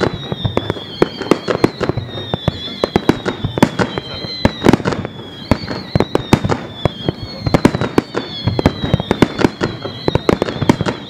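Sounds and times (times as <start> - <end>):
fireworks bursting with bangs: 0.0 - 11.0.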